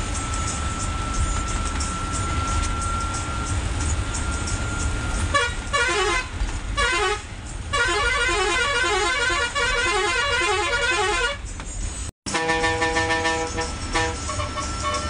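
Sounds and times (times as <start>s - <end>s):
bus engine rumble: 0.0s - 15.0s
bus musical horn: 0.0s - 15.0s.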